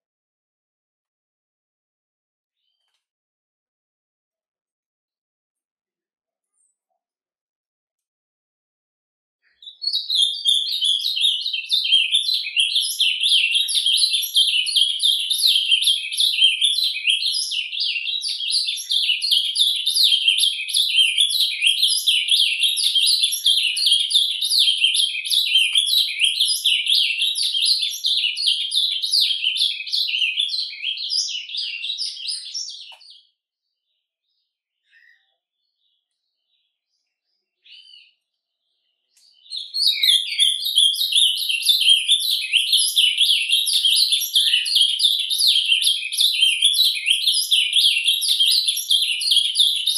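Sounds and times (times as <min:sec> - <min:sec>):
bird twittering song: 0:09.4 - 0:49.9.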